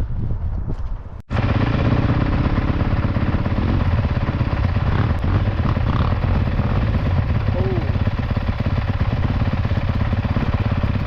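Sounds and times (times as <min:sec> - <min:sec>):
motorcycle engine at low revs: 0:01.3 - 0:11.0.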